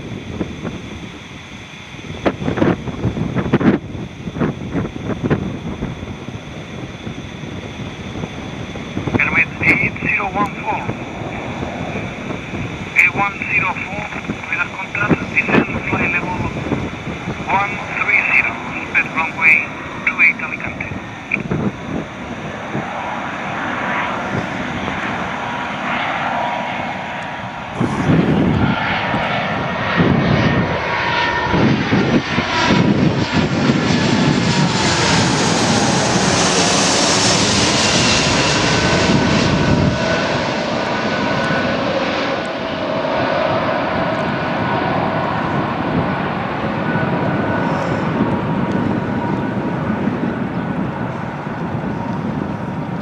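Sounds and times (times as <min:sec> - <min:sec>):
jet airliner flying past: 0:00.0 - 0:53.0
wind buffeting microphone: 0:00.0 - 0:53.0.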